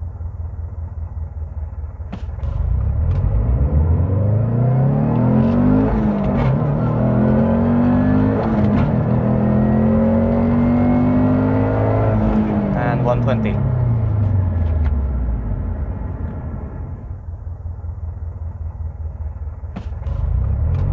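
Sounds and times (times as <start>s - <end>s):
car engine accelerating: 1.1s - 20.9s.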